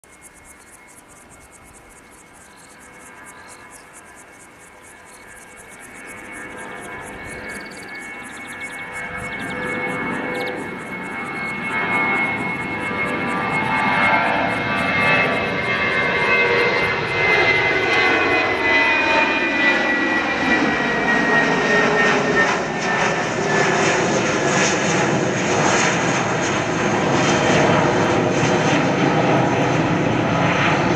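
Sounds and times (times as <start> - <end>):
jet engine roar with whine: 0.0 - 30.9.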